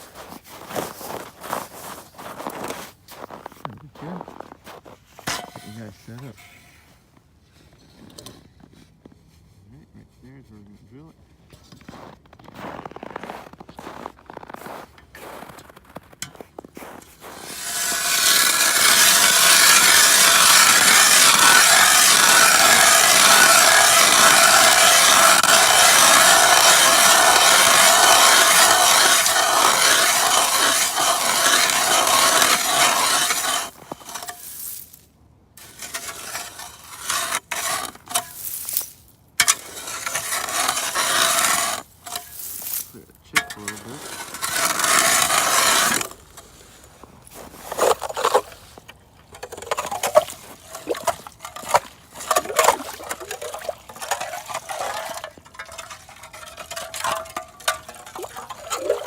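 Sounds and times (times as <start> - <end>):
ice auger grinding: 0.0 - 6.9, 12.0 - 34.9, 35.6 - 59.0
ice scraping and knocking: 0.0 - 8.9, 11.5 - 35.0, 35.6 - 59.0.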